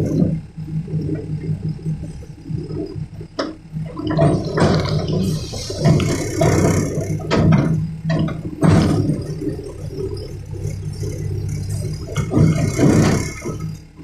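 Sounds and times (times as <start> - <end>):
diesel engine running: 0.0 - 14.0
rushing rattling noise bursts: 0.0 - 14.0.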